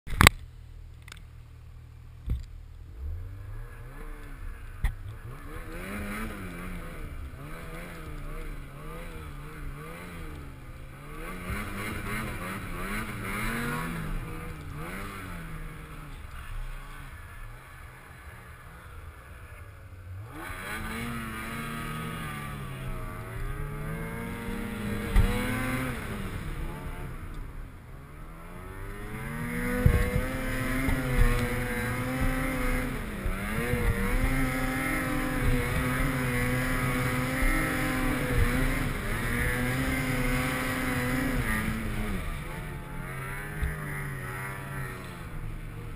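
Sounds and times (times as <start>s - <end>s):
snowmobile engine revving: 2.9s - 45.9s.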